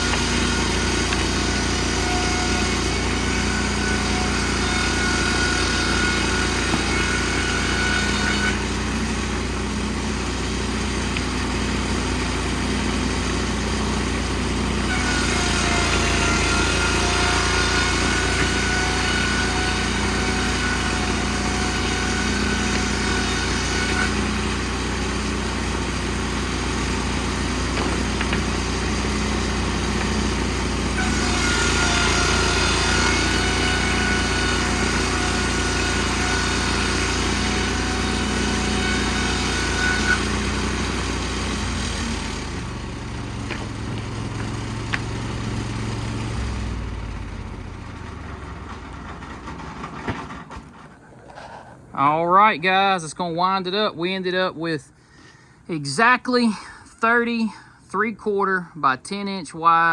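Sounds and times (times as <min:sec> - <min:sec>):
band sawmill sawing log: 0:00.0 - 0:54.5.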